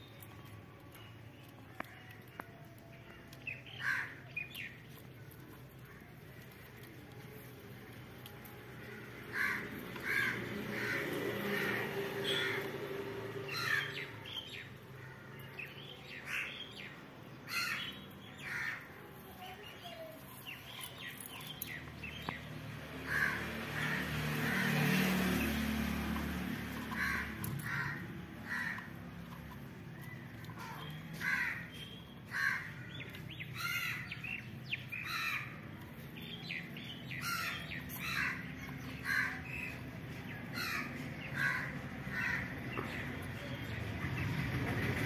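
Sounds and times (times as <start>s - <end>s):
birds calling: 1.8s - 7.6s, 8.2s - 45.0s.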